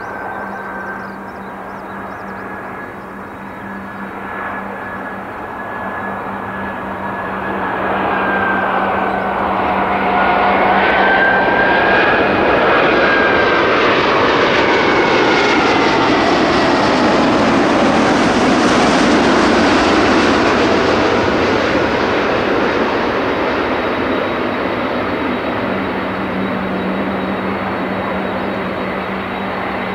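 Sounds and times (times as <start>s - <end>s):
jet engines roaring and whining: 0.0s - 29.9s.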